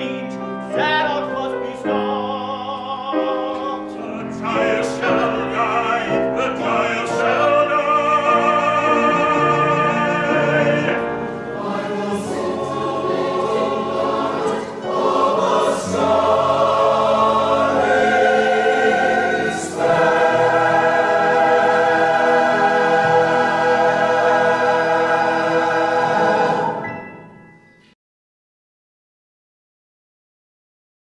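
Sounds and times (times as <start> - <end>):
choir singing: 0.0 - 27.4.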